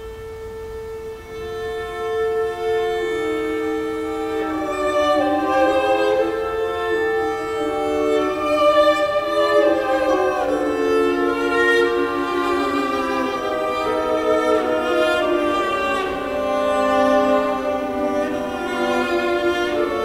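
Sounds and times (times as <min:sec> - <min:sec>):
slow classical string music: 0:00.0 - 0:20.0.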